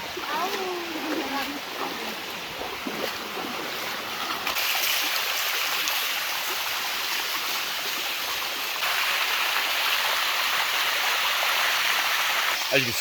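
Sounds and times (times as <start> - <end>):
water rushing down waterfall: 0.0 - 13.0.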